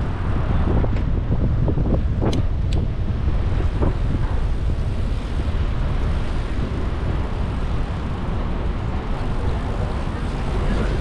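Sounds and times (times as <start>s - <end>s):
city street traffic rumble: 0.0s - 11.0s
wind rushing over microphone: 0.0s - 11.0s.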